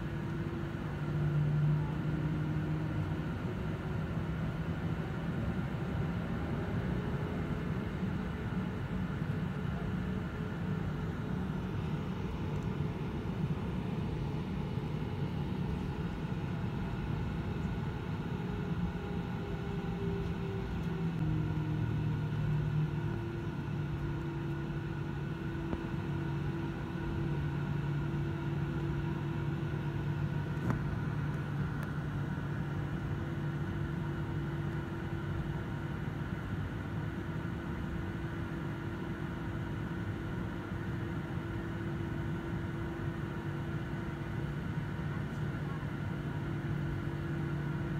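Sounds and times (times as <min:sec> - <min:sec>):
jet engines rumbling in cabin: 0:00.0 - 0:47.9.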